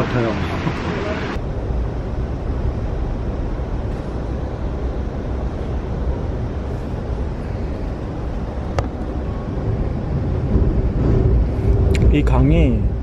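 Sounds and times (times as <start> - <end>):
train rumbling along: 0.0 - 13.0.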